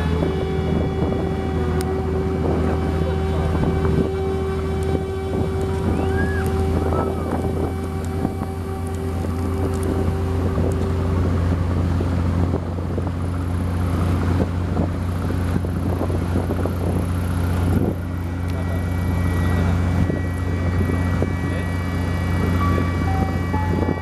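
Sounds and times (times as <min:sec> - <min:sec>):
boat engine droning: 0:00.0 - 0:24.0
water noise: 0:00.0 - 0:24.0
wind: 0:00.0 - 0:24.0.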